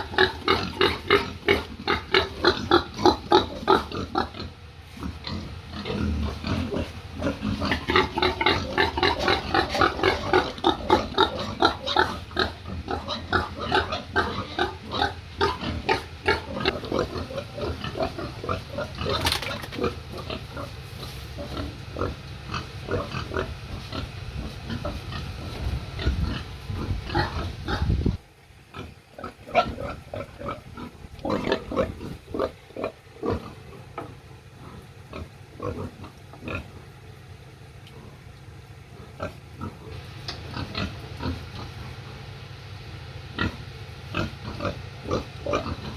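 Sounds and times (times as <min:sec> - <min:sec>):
pigs grunting: 0:00.0 - 0:37.2, 0:37.8 - 0:42.4, 0:43.3 - 0:45.9
low steady hum: 0:00.0 - 0:45.9.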